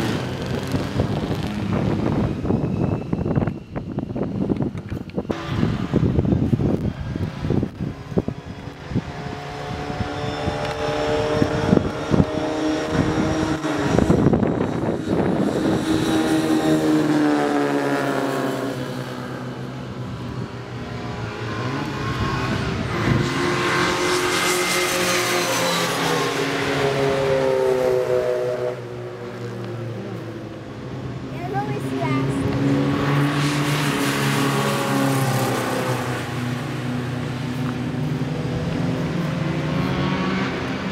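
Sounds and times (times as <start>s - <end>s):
race car engines passing: 0.0s - 40.9s.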